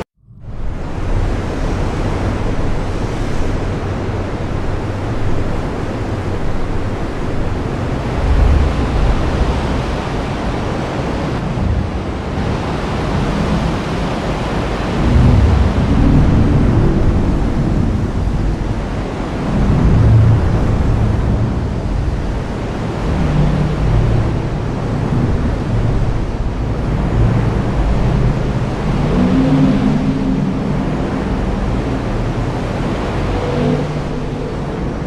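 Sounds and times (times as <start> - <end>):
deep low rumbles: 0.0 - 3.0, 4.8 - 13.5, 14.9 - 35.0
heavy rain: 0.5 - 35.0.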